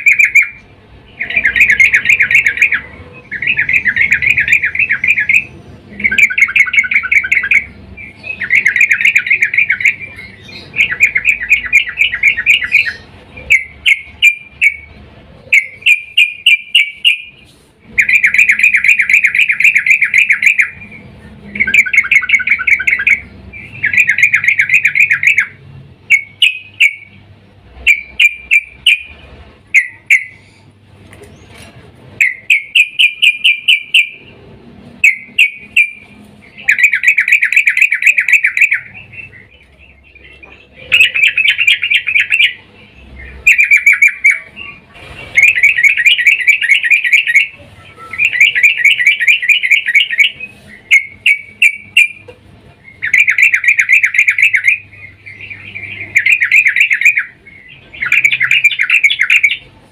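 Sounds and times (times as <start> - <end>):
bulbul chattering call: 0.0 - 27.2, 27.8 - 34.4, 35.0 - 59.8.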